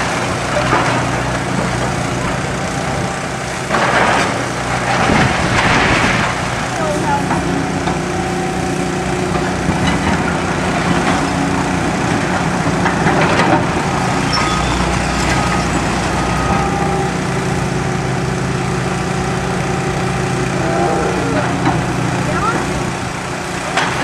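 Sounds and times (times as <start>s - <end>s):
heavy machinery engine running: 0.0s - 24.0s.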